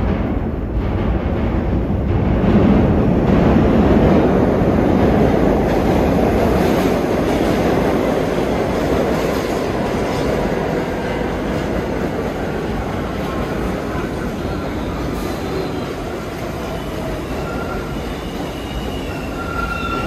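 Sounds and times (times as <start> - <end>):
subway train rumbling on rails: 0.0 - 20.0.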